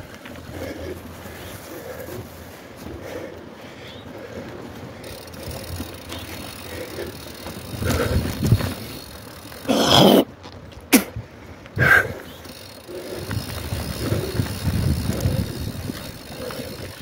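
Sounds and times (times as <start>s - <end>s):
mountain bikes passing: 0.0s - 17.0s.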